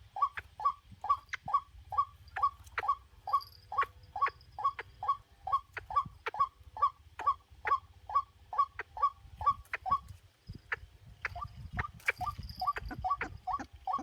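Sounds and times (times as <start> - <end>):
bird calling harsh notes: 0.0 - 14.0.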